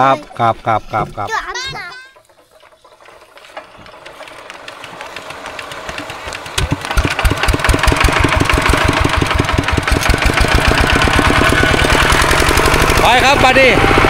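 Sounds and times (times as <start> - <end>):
tractor diesel engine running: 0.3 - 14.0.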